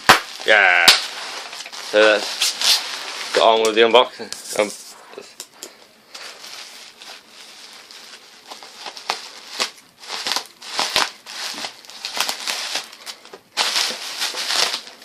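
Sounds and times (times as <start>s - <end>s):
plastic packaging crinkling: 0.0s - 4.0s, 6.1s - 15.0s.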